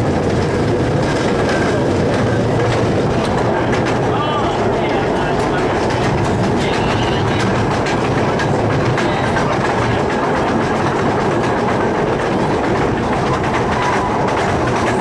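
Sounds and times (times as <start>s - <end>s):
clicks over rail joints: 0.0s - 15.0s
wheels rumbling on rail: 0.0s - 15.0s.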